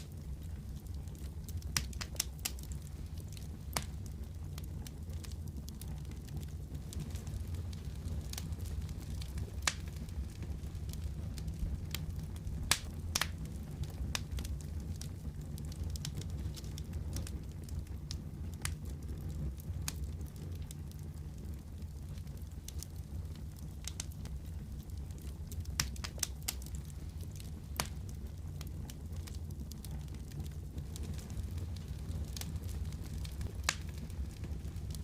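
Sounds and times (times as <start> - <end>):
fire crackling and popping: 0.0 - 35.0
fire rumbling: 0.0 - 35.0.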